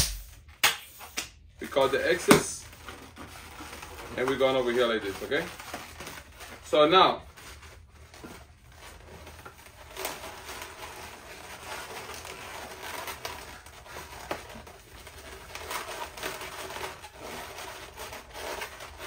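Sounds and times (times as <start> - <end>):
latex balloons rubbing and squeaking: 1.6 - 7.1, 7.8 - 19.0.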